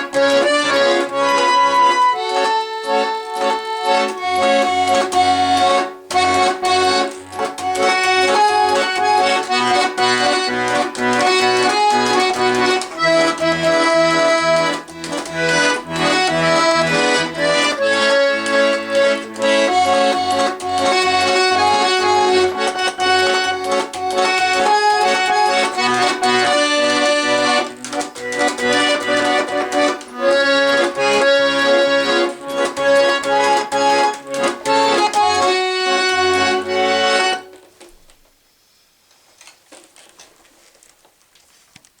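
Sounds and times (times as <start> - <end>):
button accordion melody: 0.0 - 37.8
faint room noise: 0.0 - 42.0.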